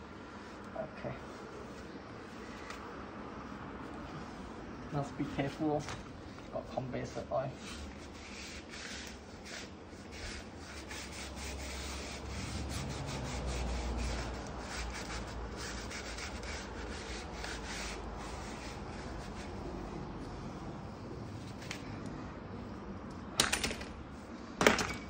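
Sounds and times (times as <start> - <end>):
rubbing and scraping strokes: 0.1 - 22.8.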